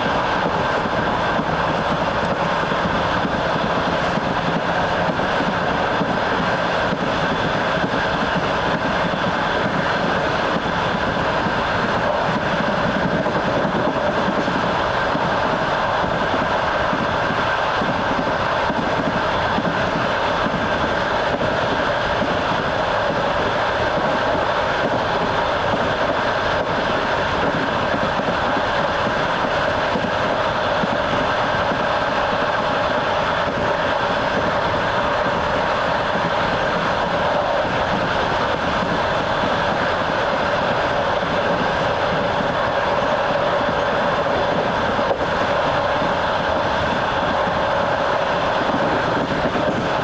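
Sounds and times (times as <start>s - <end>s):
train wheels rolling on rails: 0.0s - 50.0s.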